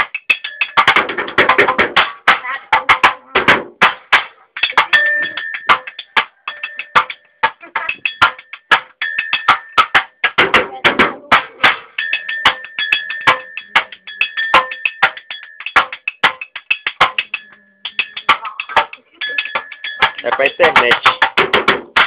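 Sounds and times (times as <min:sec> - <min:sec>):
drumming on cans: 0:00.0 - 0:22.0.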